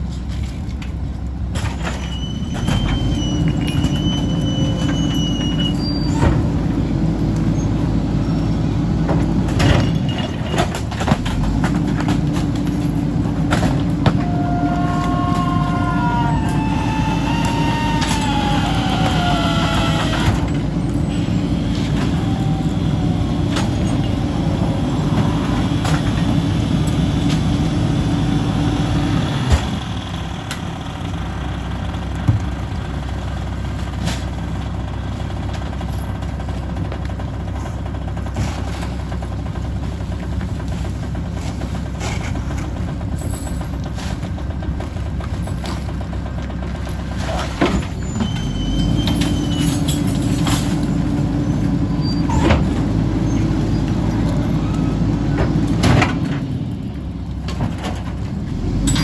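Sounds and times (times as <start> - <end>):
trash and metal clunks: 0.1 - 30.7, 35.2 - 59.0
garbage truck engine revving: 2.4 - 33.6, 37.2 - 59.0.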